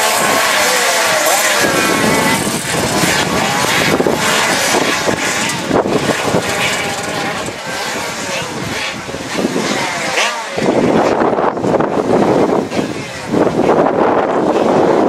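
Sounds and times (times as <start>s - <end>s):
racing kart engines: 0.0s - 15.0s.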